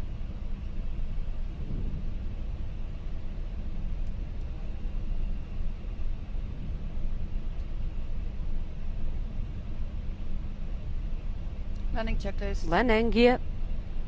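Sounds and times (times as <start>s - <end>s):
airflow and engine noise in cockpit: 0.0s - 14.0s.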